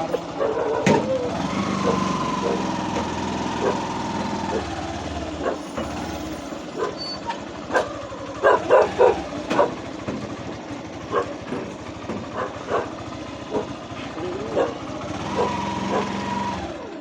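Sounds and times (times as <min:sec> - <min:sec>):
dogs barking: 0:00.0 - 0:05.9, 0:06.7 - 0:10.1, 0:11.0 - 0:16.8.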